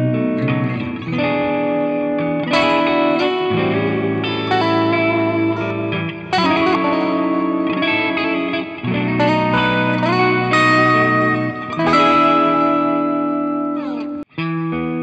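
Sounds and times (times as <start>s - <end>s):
electric guitar chords and notes: 0.0s - 15.0s.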